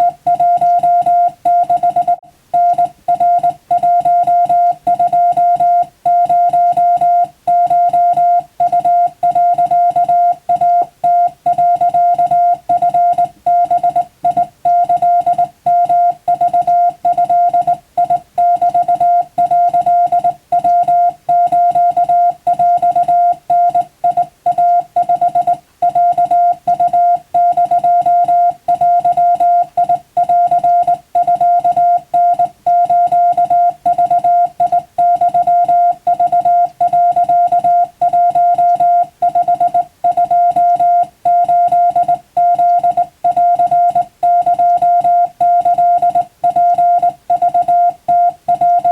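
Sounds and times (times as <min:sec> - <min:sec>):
morse code beeps: 0:00.0 - 0:48.9.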